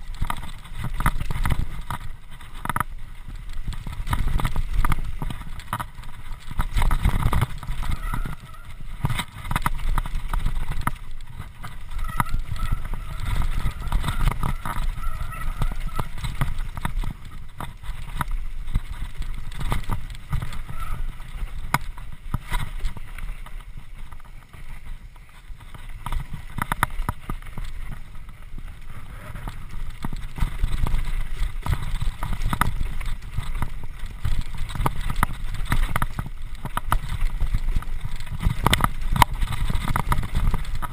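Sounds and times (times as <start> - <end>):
bike rattling over bumps: 0.0 - 40.9
low rumble of wind and trail: 0.0 - 40.9.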